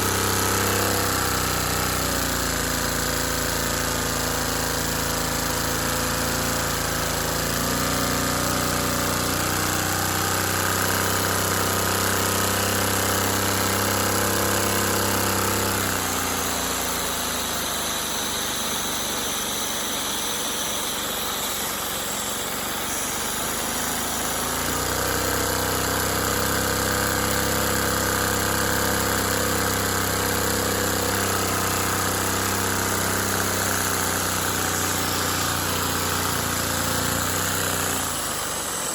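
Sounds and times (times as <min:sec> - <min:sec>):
model engine clattering: 0:00.0 - 0:18.1, 0:23.8 - 0:38.2.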